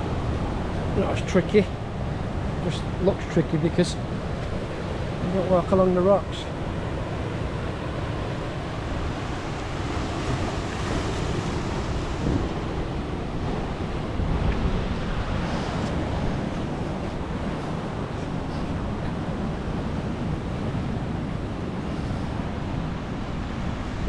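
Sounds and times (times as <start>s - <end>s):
ocean surf washing against rocks: 0.0s - 24.0s
wind buffeting microphone: 0.0s - 24.0s.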